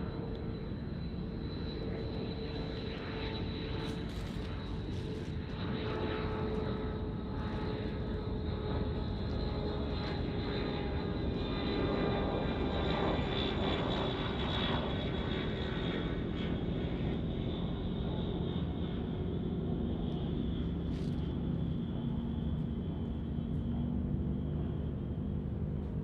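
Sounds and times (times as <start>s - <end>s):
turboprop aircraft engines: 0.0s - 26.0s.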